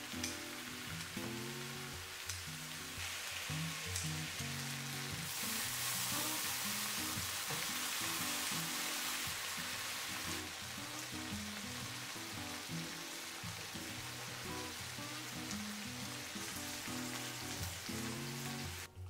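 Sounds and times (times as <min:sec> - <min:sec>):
food sizzling on a griddle: 0:00.0 - 0:18.9
background music: 0:00.0 - 0:19.0.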